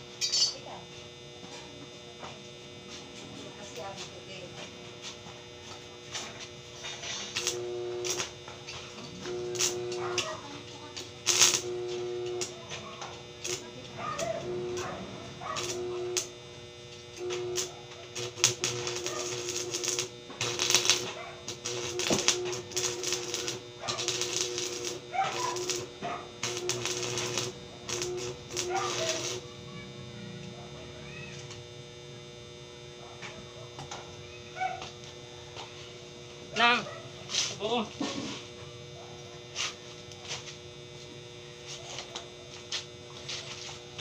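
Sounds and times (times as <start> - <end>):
welding arc crackling: 0.0 - 44.0
welding machine humming: 0.0 - 44.0.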